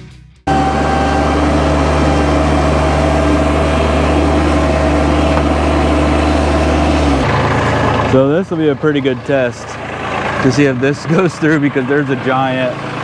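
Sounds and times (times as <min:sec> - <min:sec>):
skid steer engine running: 0:00.5 - 0:13.0.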